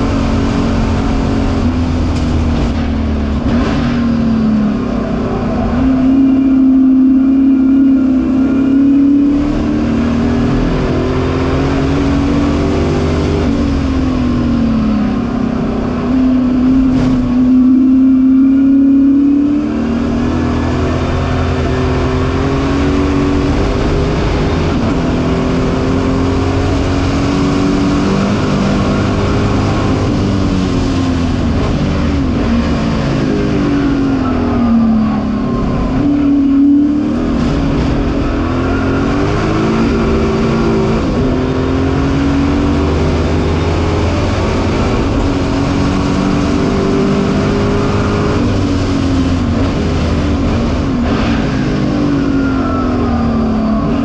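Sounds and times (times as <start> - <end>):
race car engine at speed: 0.0 - 54.0.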